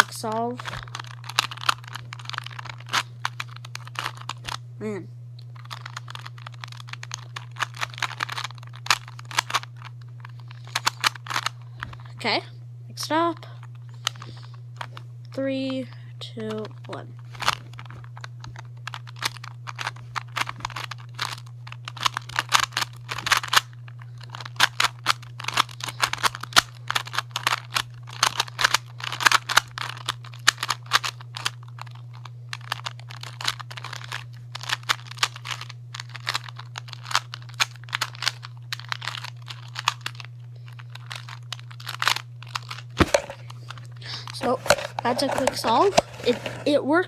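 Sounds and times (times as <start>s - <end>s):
steady low hum: 0.0s - 47.0s
plastic puzzle cube clicking: 0.7s - 4.6s, 5.6s - 9.9s, 10.6s - 11.5s, 16.5s - 46.6s.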